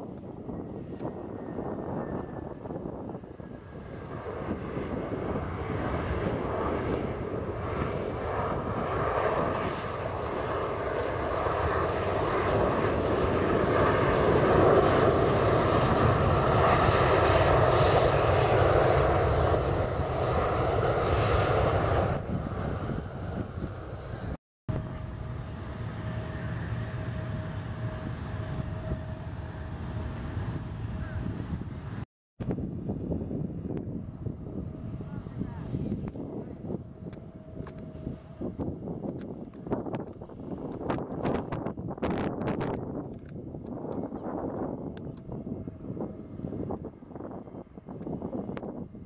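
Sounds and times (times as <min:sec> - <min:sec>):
jet engine whine and rumble: 0:00.0 - 0:49.0.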